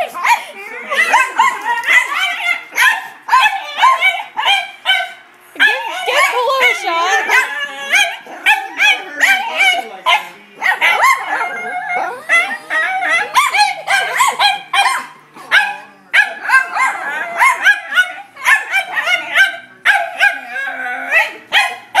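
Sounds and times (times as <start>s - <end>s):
dogs barking rapidly: 0.0s - 22.0s.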